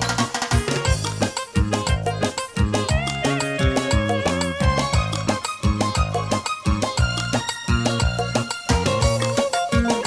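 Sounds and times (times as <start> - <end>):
live band playing pop music: 0.0 - 10.0.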